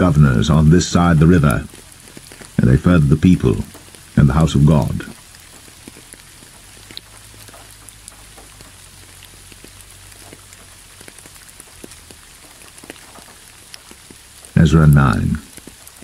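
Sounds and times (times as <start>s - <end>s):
rain hiss: 0.0s - 16.0s
raindrops ticking: 0.0s - 16.0s.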